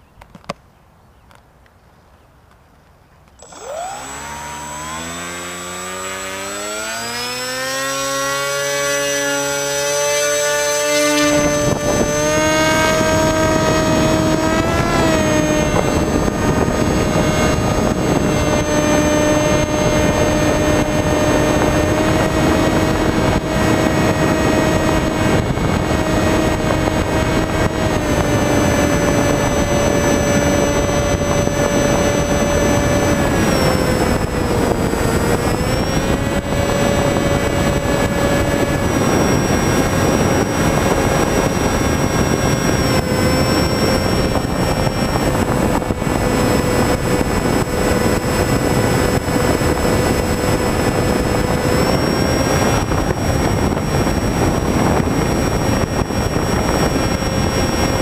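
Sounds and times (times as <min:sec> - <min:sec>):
electric motor and propeller whine: 0:03.3 - 0:58.0
wind rush over microphone: 0:03.4 - 0:58.0.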